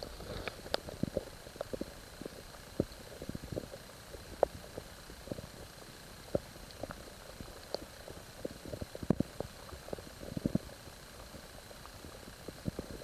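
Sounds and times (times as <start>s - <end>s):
steady underwater hiss: 0.0s - 13.0s.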